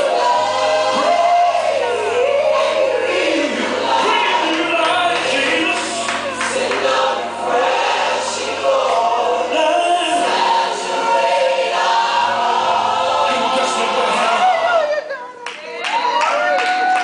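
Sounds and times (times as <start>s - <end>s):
choir singing a held chord: 0.0s - 15.0s.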